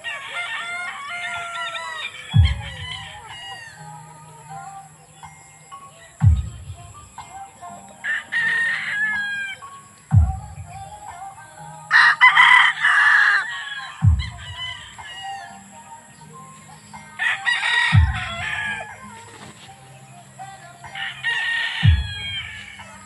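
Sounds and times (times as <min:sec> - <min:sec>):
roosters crowing: 0:00.0 - 0:05.6, 0:07.3 - 0:23.0
chickens clucking: 0:00.0 - 0:23.0.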